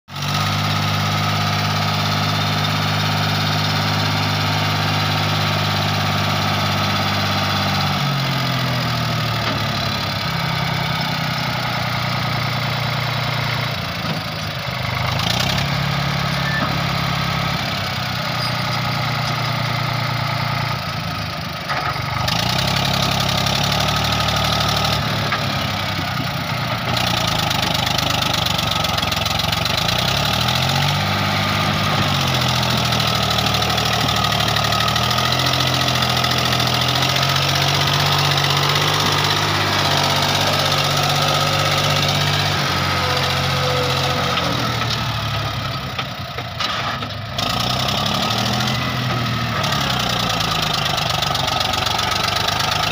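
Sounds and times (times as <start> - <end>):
tractor diesel engine running: 0.1 - 52.9.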